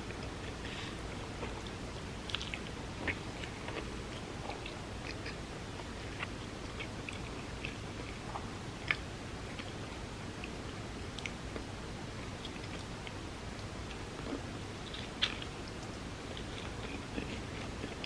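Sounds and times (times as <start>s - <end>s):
chewing food: 0.1s - 18.0s.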